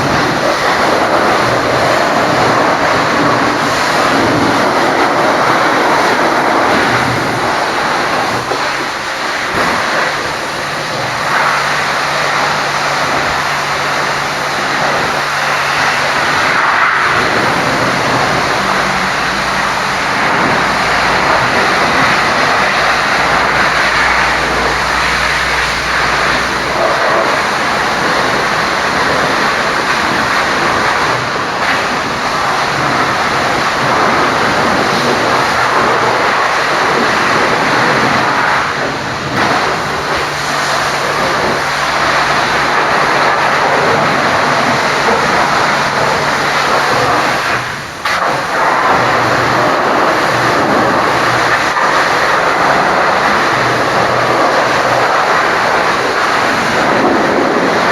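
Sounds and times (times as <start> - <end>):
pressure washer spraying water: 0.0 - 57.9.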